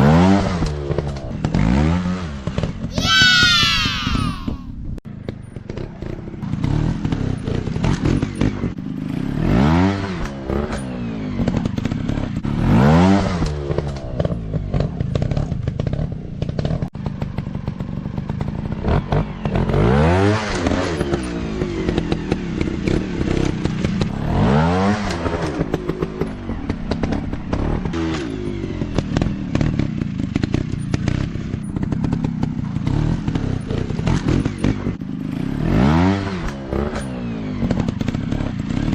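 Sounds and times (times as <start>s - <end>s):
dirt bike engine revving: 5.6s - 17.3s, 18.3s - 38.9s.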